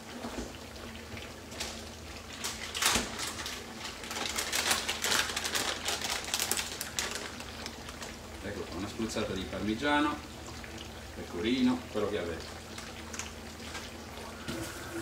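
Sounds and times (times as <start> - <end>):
frying in hot oil crackling: 0.0 - 15.0.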